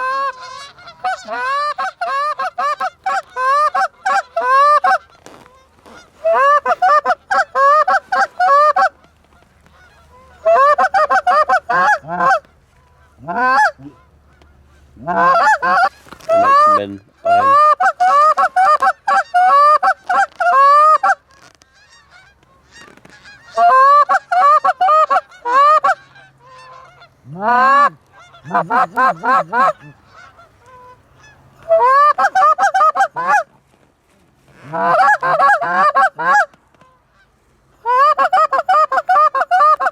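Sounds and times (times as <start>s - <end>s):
goose honking: 0.0s - 33.5s, 34.5s - 39.9s.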